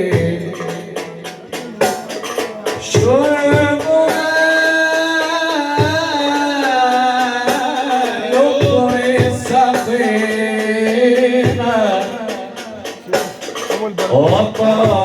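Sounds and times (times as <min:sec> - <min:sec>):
hand drum beats: 0:00.0 - 0:15.0.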